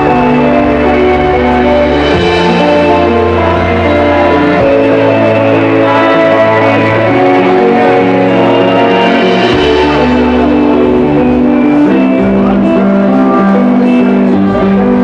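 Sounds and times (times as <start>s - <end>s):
drums: 0.0s - 15.0s
electric bass: 0.0s - 15.0s
electric guitar: 0.0s - 15.0s
keyboard: 0.0s - 15.0s.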